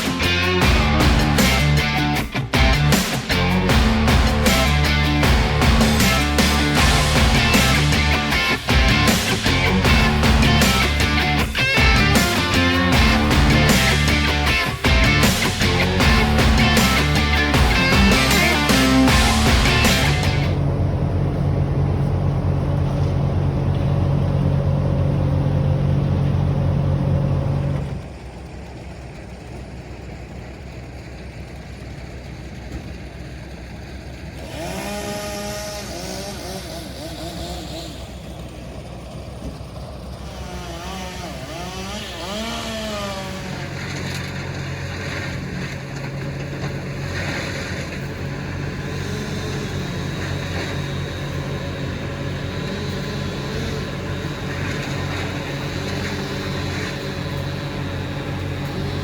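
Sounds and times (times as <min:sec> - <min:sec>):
engine pitch rising and falling: 0:00.0 - 0:29.2, 0:32.1 - 0:59.0
heavy engine running: 0:00.0 - 0:59.0.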